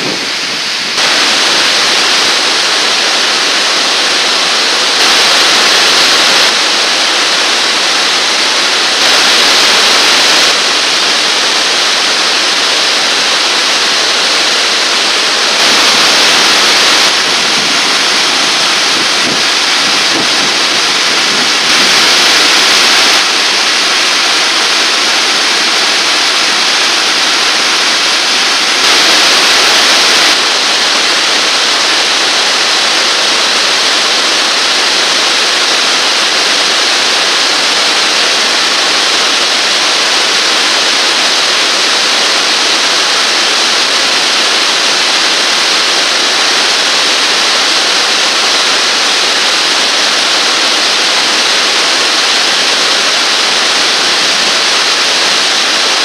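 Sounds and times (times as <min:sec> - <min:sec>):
water rushing over dam: 0:00.0 - 0:56.0.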